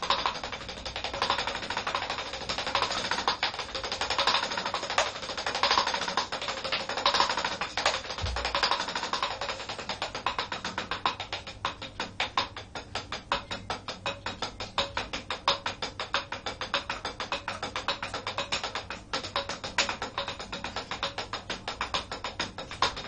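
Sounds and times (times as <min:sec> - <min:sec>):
drumsticks on practice pads: 0:00.0 - 0:23.0.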